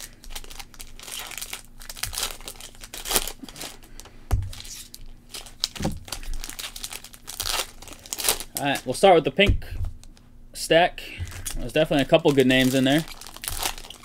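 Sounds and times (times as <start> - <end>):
foil packs being torn open: 0.0 - 9.0, 11.4 - 14.0
foil packs crinkling: 0.0 - 10.1, 11.2 - 14.0.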